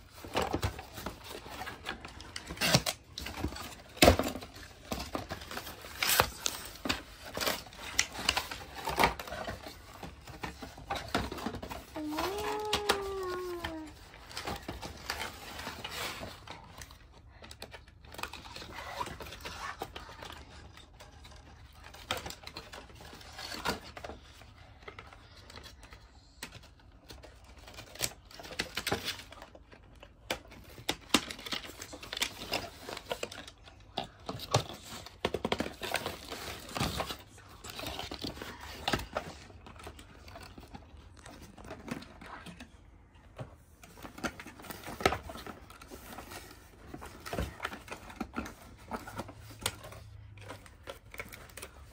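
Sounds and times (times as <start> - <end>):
cardboard and plastic rustling: 0.0 - 51.9.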